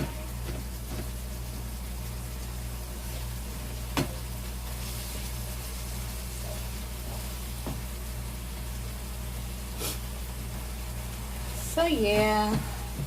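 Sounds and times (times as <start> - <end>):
meat sizzling in a frying pan: 0.0 - 12.5.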